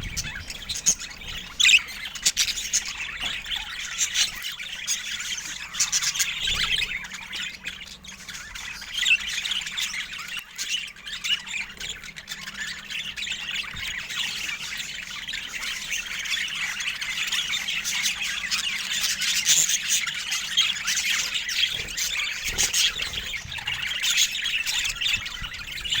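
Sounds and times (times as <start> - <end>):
budgerigars chattering: 0.0 - 26.0.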